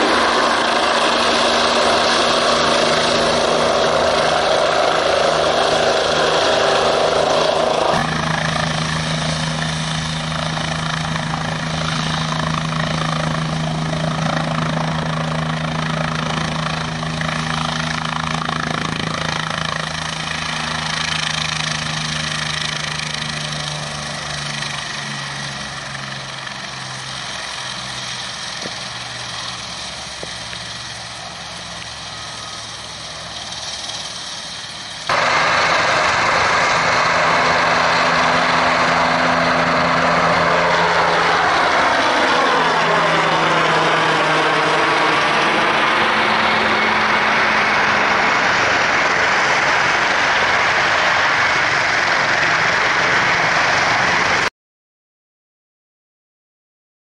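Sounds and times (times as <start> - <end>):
helicopter flying low: 0.0 - 54.5
helicopter rotor idling on ground: 0.0 - 54.5.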